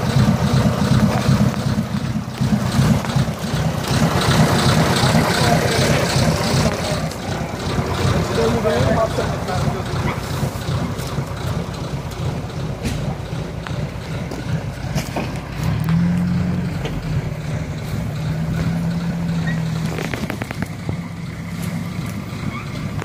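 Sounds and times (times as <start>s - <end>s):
diesel engines running: 0.0s - 23.0s.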